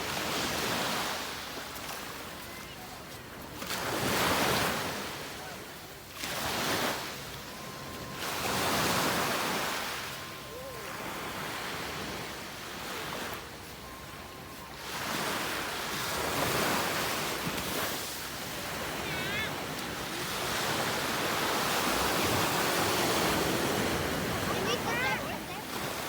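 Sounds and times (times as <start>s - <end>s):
sea waves breaking on beach: 0.0s - 26.0s.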